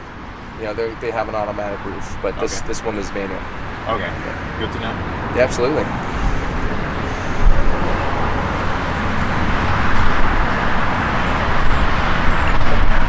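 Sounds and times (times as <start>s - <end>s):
road traffic rushing by: 0.0s - 13.0s.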